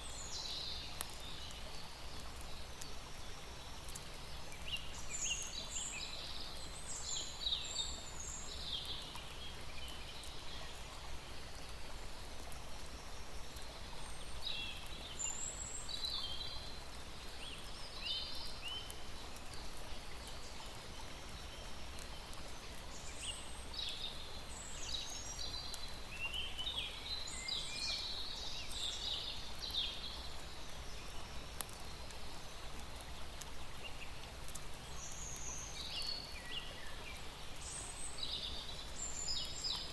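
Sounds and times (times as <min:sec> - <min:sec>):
small birds chirping: 0:00.0 - 0:39.9
steady background hiss: 0:00.0 - 0:39.9.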